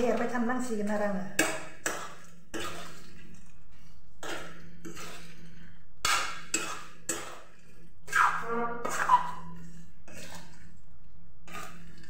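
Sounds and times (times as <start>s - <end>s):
metal spatula scraping a pan: 1.4s - 10.7s, 11.4s - 12.0s.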